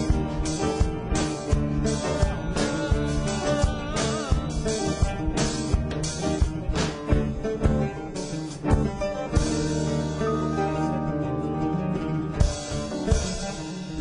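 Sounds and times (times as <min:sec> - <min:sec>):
drums and percussion: 0:00.0 - 0:10.3, 0:12.4 - 0:14.0
oud plucked phrases: 0:00.0 - 0:14.0.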